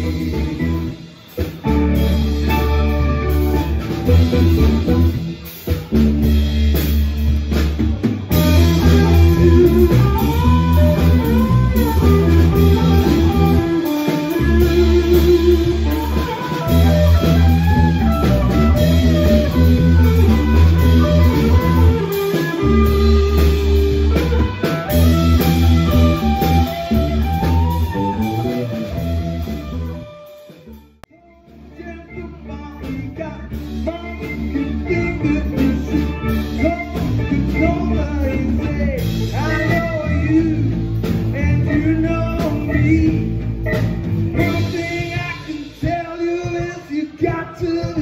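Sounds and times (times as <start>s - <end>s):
bass guitar: 0.0s - 48.0s
drums: 0.0s - 48.0s
electric guitars: 0.0s - 48.0s.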